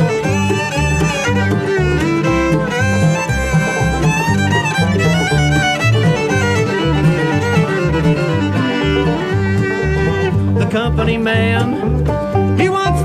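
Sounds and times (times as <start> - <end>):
fiddle playing melody: 0.0 - 13.0
guitar rhythm: 0.0 - 13.0
plucked bass: 0.0 - 13.0.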